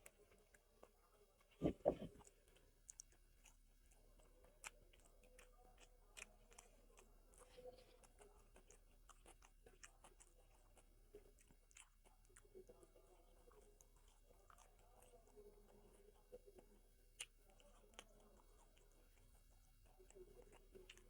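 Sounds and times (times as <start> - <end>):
faint chewing of food: 0.0 - 21.0.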